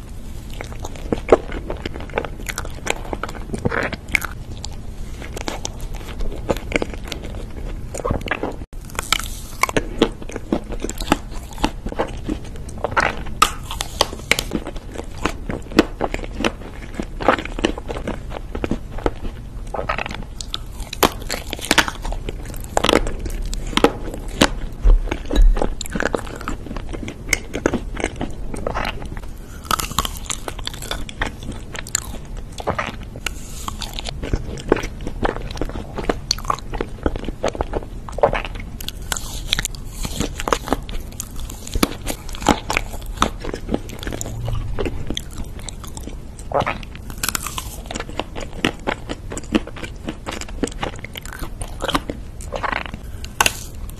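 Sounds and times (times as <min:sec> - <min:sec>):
coating crunching: 0:00.5 - 0:53.9
wet chewing: 0:00.5 - 0:53.9.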